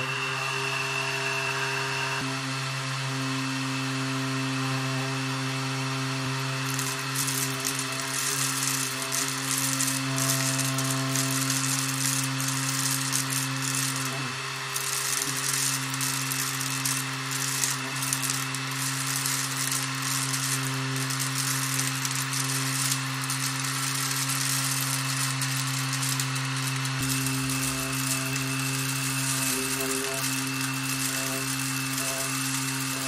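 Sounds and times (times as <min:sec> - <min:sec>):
small electric motor with hiss: 0:00.0 - 0:33.0.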